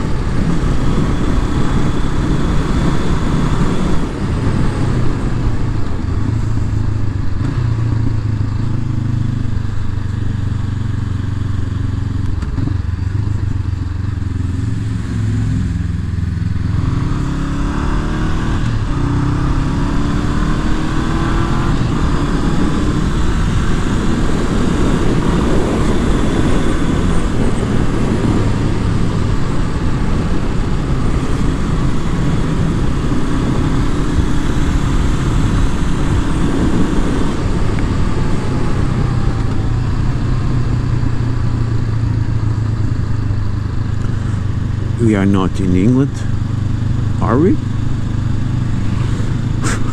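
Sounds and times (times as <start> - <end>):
motorcycle engine revving: 0.0 - 49.9
rushing wind noise: 0.0 - 49.9.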